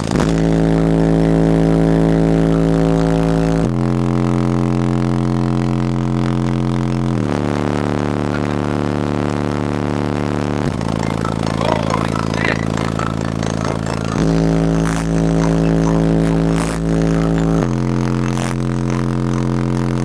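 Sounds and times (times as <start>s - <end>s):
subwoofer bass tones: 0.0s - 20.0s.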